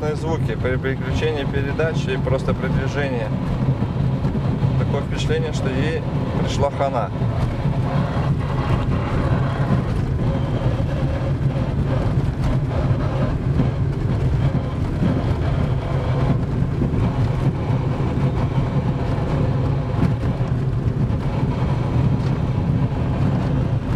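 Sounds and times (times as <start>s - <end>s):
car engine: 0.0s - 23.9s
road noise: 0.0s - 23.9s
gearbox howling: 0.2s - 23.9s.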